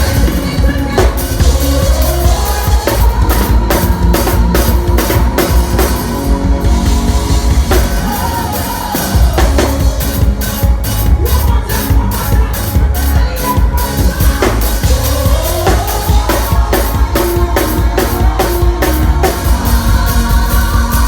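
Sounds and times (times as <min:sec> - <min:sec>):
band music: 0:00.0 - 0:21.0
bass line: 0:00.0 - 0:21.0
drum kit beat: 0:00.0 - 0:21.0.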